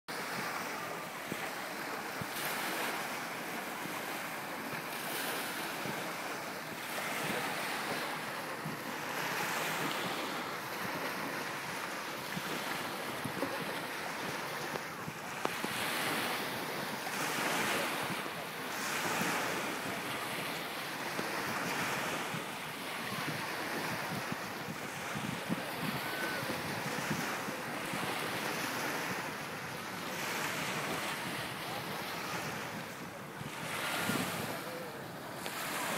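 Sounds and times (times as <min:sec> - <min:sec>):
sea waves breaking on beach: 0:00.1 - 0:35.9.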